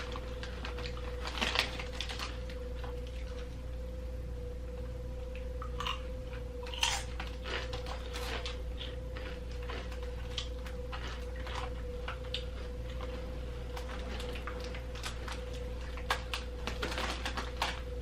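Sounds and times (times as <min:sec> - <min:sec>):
snacks being chewed and crunched: 0:00.0 - 0:03.6, 0:05.3 - 0:18.0
steady low hum: 0:00.0 - 0:18.0.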